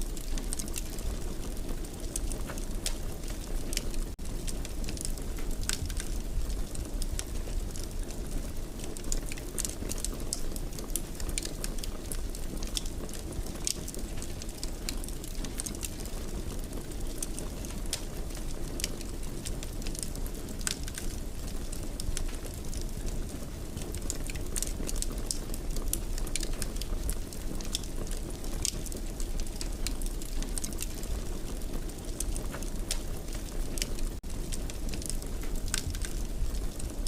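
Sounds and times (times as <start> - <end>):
low rumble of flames: 0.0 - 37.0
wood fire popping and snapping: 0.0 - 37.0.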